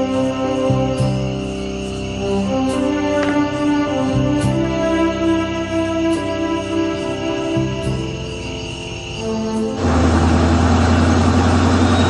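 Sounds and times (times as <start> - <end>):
slow background music: 0.0 - 12.0.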